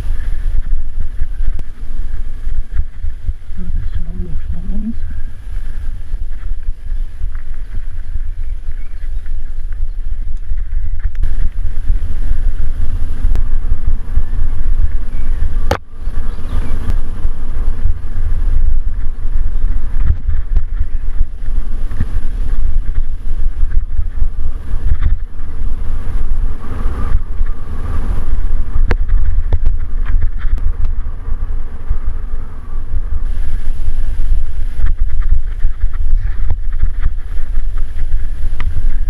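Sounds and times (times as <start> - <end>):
mountain bike rolling on dirt: 0.0 - 39.0
wind rumble on microphone: 0.0 - 39.0.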